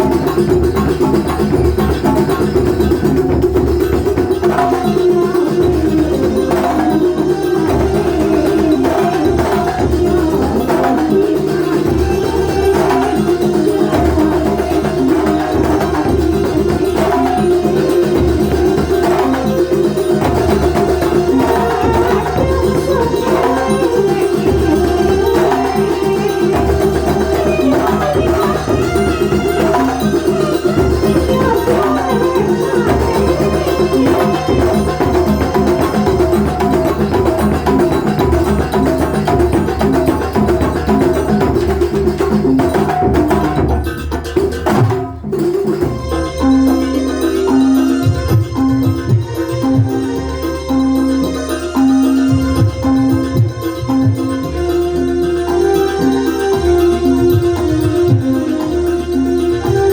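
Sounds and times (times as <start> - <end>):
driving drumming and percussion: 0.0 - 59.9
steady held tone: 0.0 - 59.9.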